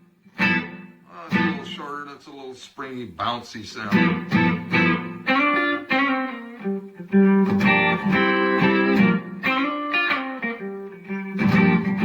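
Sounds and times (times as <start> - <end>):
electric guitar with reverb: 0.0 - 1.9, 3.8 - 12.0.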